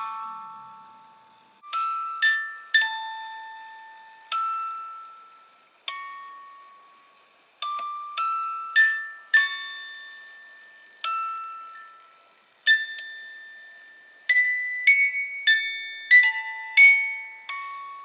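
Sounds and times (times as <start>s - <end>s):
music box playing: 0.0s - 18.0s.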